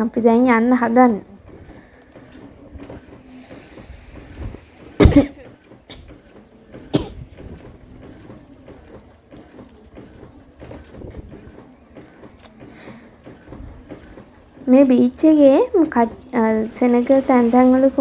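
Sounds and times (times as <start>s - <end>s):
faint outdoor background: 0.0s - 18.0s
loud bumps: 0.8s - 18.0s.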